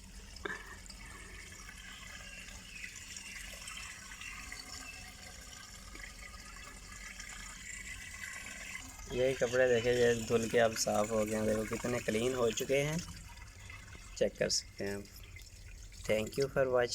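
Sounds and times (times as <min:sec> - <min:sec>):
water draining through hose: 0:00.0 - 0:16.9.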